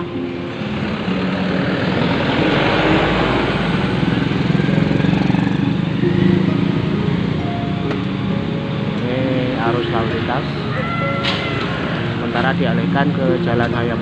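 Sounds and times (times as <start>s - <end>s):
motorcycle engines passing: 0.0s - 14.0s.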